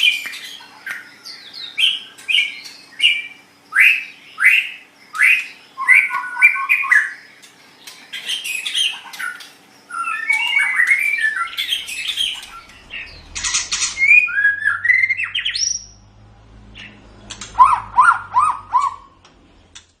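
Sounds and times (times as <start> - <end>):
songbird singing whistles and trills: 0.0 - 16.0, 16.8 - 19.1.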